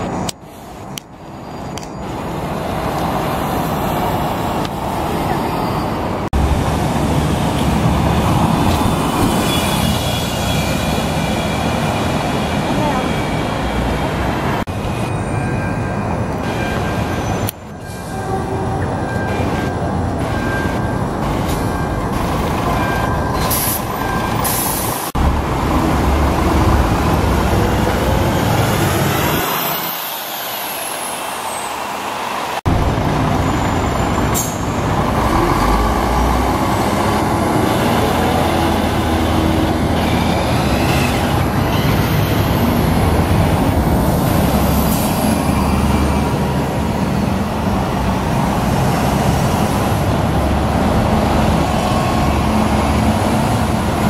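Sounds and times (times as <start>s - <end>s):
diesel buses pulling away: 0.0s - 54.0s
street traffic: 0.0s - 54.0s.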